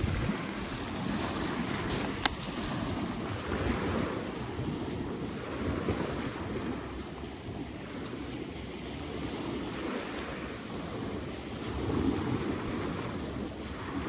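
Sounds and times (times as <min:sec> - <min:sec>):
wind and water rushing: 0:00.0 - 0:14.0
wind buffeting microphone: 0:00.0 - 0:14.0.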